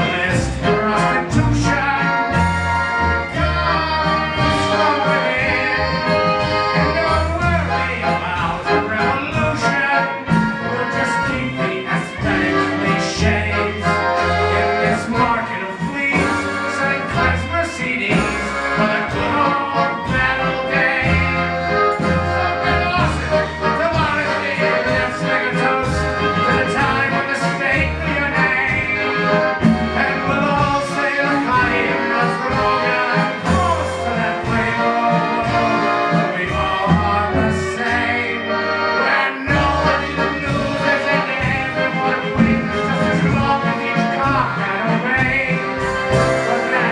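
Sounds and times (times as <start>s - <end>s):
accordion melody: 0.0s - 46.9s
steady bass line: 0.0s - 46.9s.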